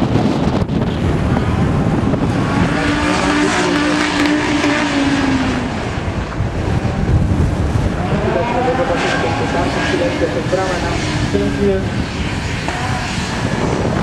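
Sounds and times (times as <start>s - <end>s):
rally car engine: 0.0s - 14.0s
wind rumble on microphone: 0.0s - 14.0s.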